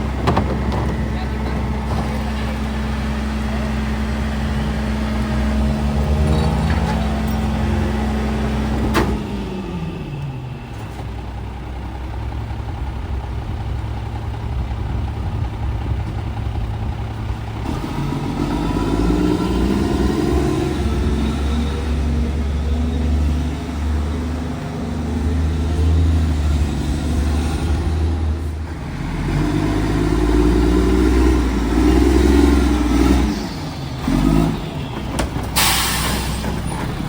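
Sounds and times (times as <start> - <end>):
garbage truck diesel engine: 0.0 - 37.0.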